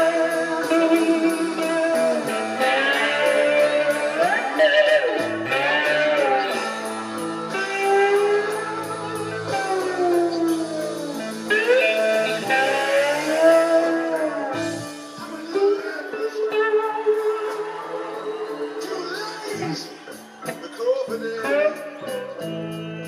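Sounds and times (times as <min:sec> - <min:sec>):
slide guitar blues riff: 0:00.0 - 0:23.0.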